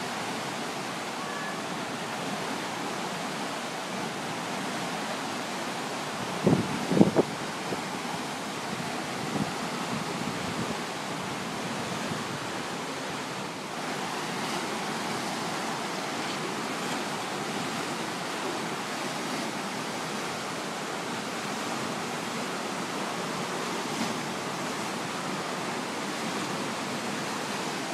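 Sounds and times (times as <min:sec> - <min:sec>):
river rushing and churning: 0:00.0 - 0:27.9.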